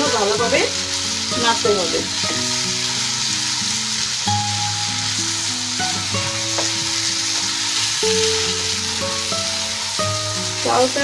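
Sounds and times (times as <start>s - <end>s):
background music: 0.0s - 11.0s
pulp sizzling in oil: 0.0s - 11.0s.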